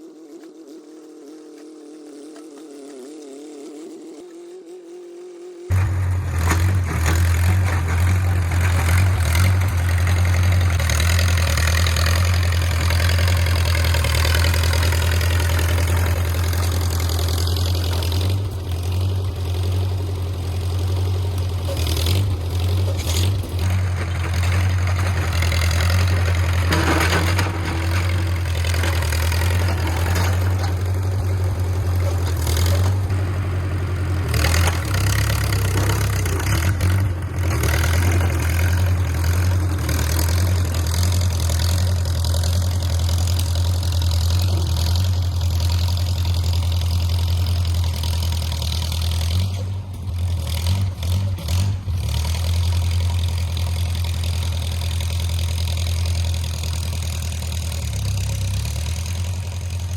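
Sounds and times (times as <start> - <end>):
bulldozer engine running: 5.7 - 59.9.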